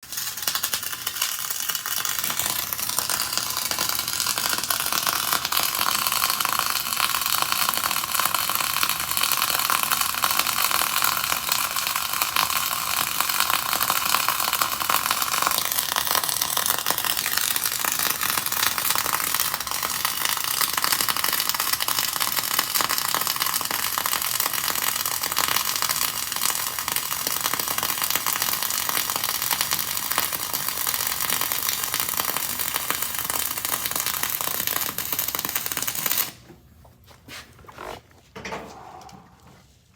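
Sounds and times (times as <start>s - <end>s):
welding arc crackling: 0.0s - 36.4s.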